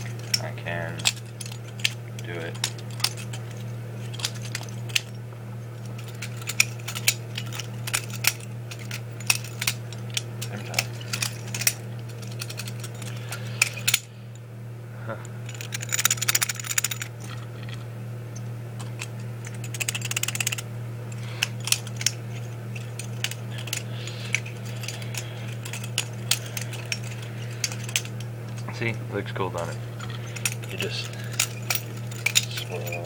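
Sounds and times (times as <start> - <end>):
butterfly knives clicking and clattering: 0.0 - 5.2, 5.8 - 14.1, 15.5 - 17.8, 18.8 - 28.8, 29.6 - 33.0.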